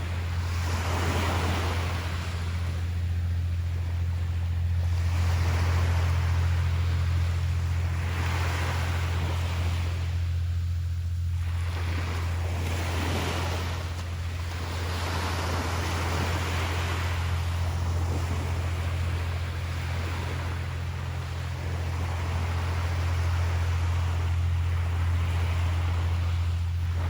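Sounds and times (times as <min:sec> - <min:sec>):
ocean waves washing onto beach: 0:00.0 - 0:27.0
steady low hum: 0:00.0 - 0:27.0.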